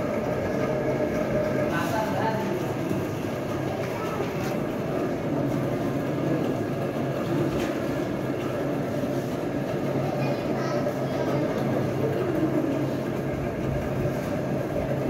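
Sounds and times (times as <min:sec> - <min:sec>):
continuous noisy wash: 0:00.0 - 0:15.0
mechanical hum and rumble: 0:00.0 - 0:15.0.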